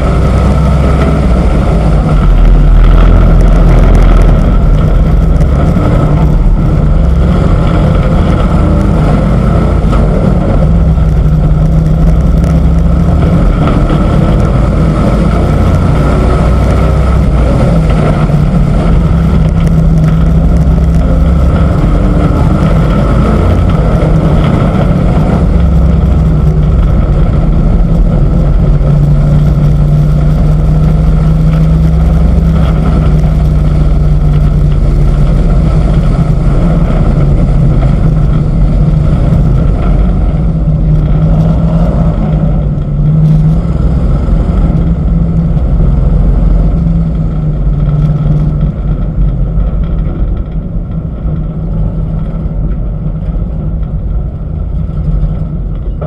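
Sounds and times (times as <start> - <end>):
air rushing over microphone: 0.0 - 56.0
truck engine running loud: 0.0 - 56.0.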